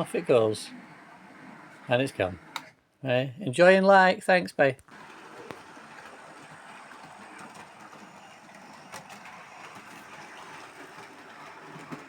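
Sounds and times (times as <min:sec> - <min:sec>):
model train motor whirring: 0:00.0 - 0:02.8, 0:04.9 - 0:12.0.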